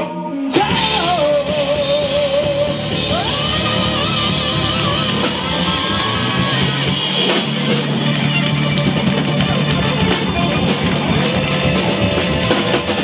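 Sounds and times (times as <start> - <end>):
blues band playing: 0.0 - 13.0
electric guitar: 0.0 - 13.0.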